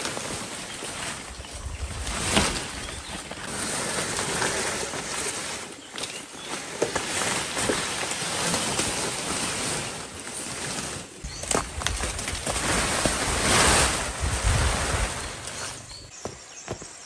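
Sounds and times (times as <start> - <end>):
palm fronds rustling and swishing: 0.0 - 17.0
leaflets crackling and snapping: 2.0 - 16.1.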